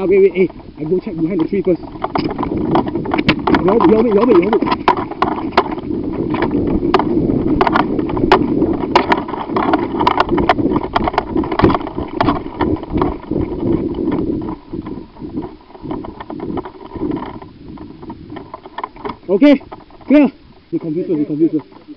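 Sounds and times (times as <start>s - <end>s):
microphone handling noise: 0.0s - 21.9s
sharp crackles and clicks: 0.0s - 21.9s
wind rumble: 0.0s - 21.9s.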